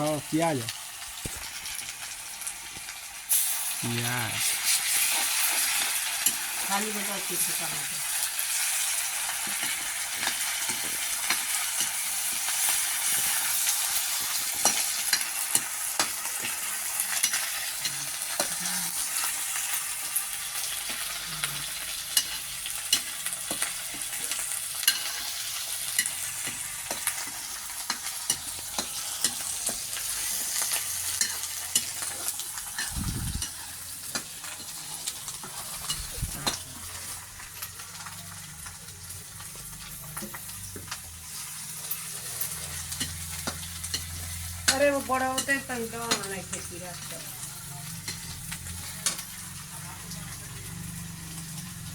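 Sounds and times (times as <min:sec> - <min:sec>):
onions sizzling in hot oil: 0:00.0 - 0:51.9.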